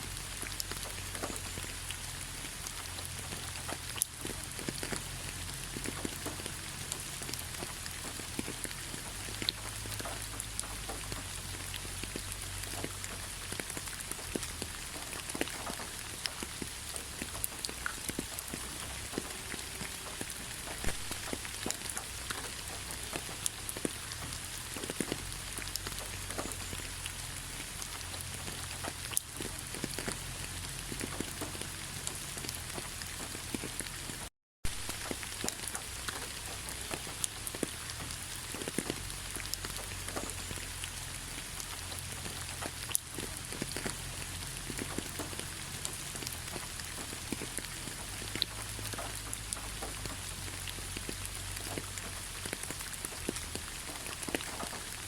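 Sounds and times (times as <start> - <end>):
rain falling on a surface: 0.0 - 55.0
raindrop ticks: 0.0 - 55.0.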